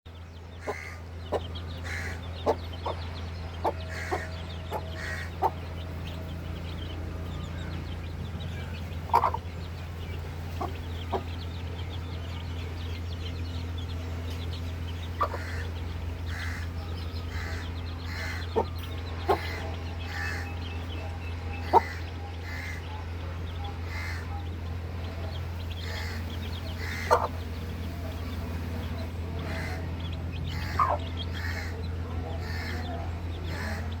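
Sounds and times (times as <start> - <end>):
chicks peeping: 0.1 - 34.0
low hum: 0.1 - 34.0.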